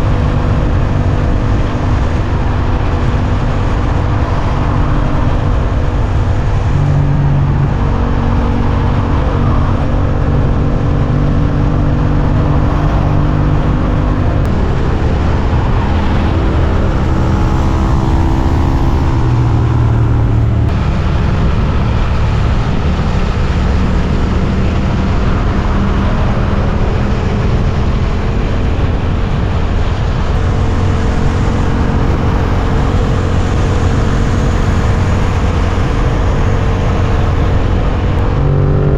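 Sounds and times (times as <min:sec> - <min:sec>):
dense low rumble: 0:00.0 - 0:38.9
motorcycle engine running: 0:00.0 - 0:38.9.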